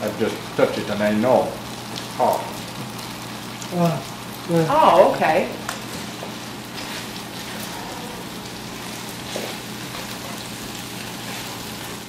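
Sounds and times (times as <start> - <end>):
chicken sizzling in a frying pan: 0.0 - 12.0.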